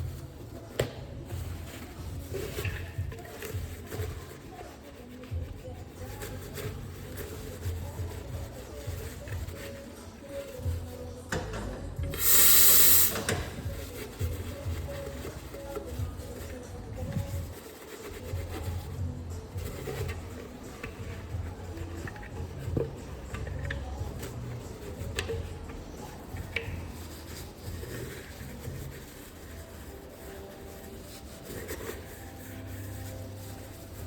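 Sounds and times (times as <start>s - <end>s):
rubbing and scraping: 0.0s - 34.0s.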